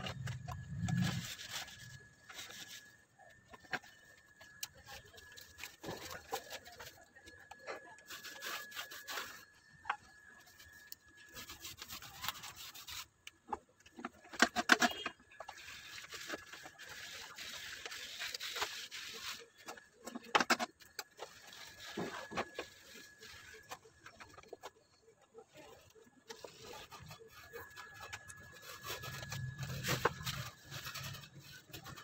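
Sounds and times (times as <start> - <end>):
paint roller rasping: 0.0 - 7.0, 7.6 - 9.7, 10.4 - 13.5, 14.2 - 24.7, 25.6 - 32.0.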